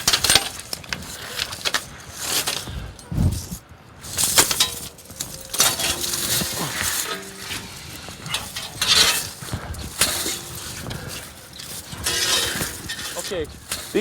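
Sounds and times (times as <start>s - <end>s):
tire chains clinking: 0.0s - 14.0s.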